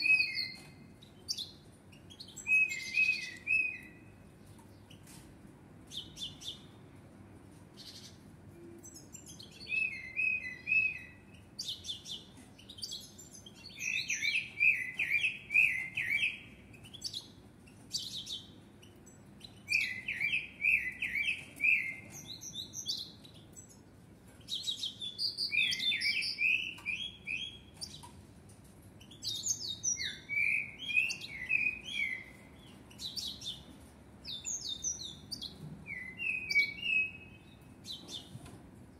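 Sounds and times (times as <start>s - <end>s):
blackbird singing: 0.0s - 5.0s, 5.9s - 6.8s, 7.8s - 23.8s, 24.4s - 28.1s, 29.0s - 38.3s.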